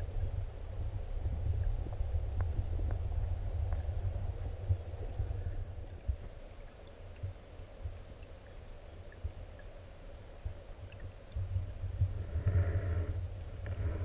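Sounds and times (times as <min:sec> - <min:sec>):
muffled underwater current rumble: 0:00.0 - 0:09.8, 0:10.4 - 0:14.0.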